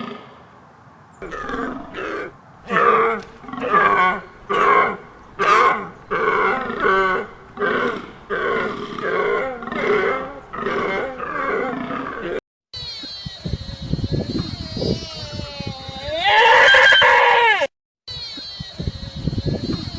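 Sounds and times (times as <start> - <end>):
deer calling: 1.2 - 19.9.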